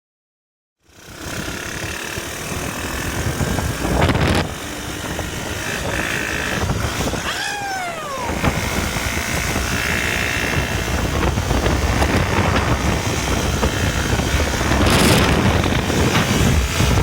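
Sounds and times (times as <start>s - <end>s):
atv engine running: 0.8s - 17.0s.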